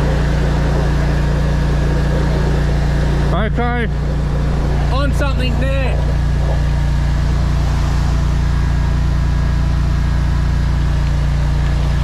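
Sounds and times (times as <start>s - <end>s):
drain jetter engine running: 0.0s - 12.0s.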